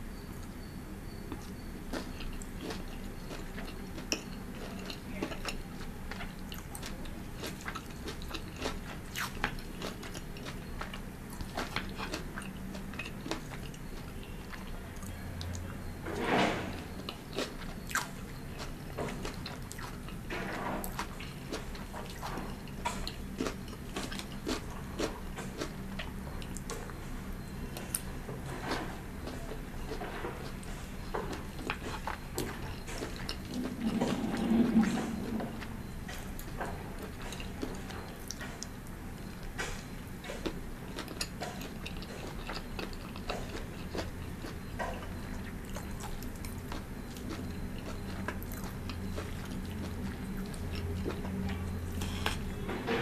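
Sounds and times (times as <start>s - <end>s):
close chewing with crunches: 1.3s - 52.7s.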